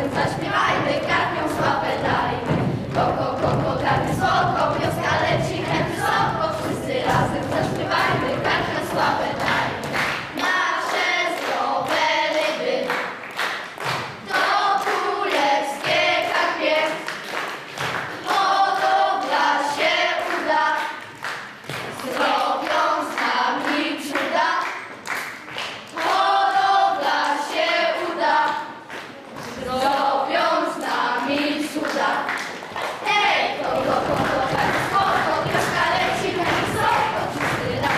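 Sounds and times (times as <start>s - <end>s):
children singing: 0.0s - 13.2s, 14.2s - 17.2s, 18.2s - 21.1s, 21.9s - 24.9s, 25.9s - 37.9s
clapping along: 0.1s - 30.1s, 30.7s - 37.9s.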